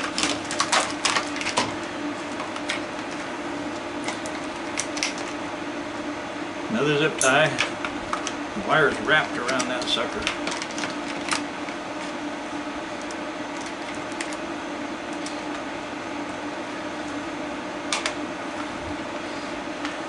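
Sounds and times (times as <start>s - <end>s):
mechanical room hum: 0.0s - 20.0s.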